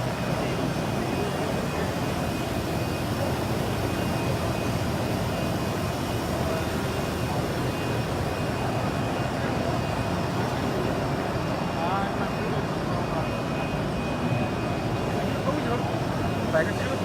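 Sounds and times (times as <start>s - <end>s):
running machines: 0.0s - 17.0s.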